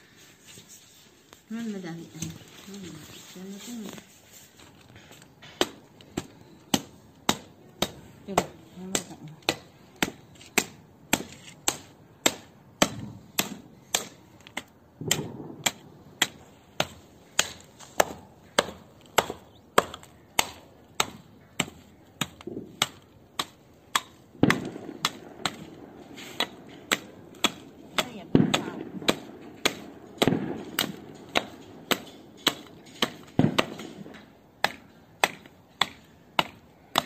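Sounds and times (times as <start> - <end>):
hatchet chopping: 5.4 - 37.0.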